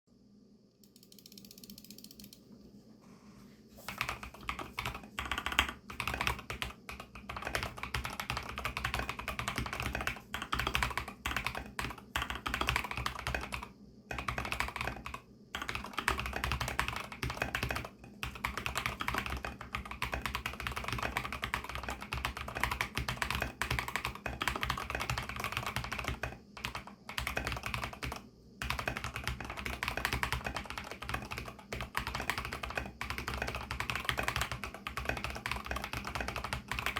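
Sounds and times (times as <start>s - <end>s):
fast typing on mechanical keyboard: 3.9s - 36.9s.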